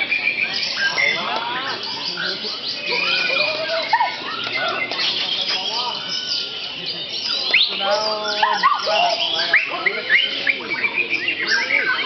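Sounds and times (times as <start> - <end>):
other birds singing: 0.0 - 12.0
songbird singing whistles and chirps: 0.0 - 12.0.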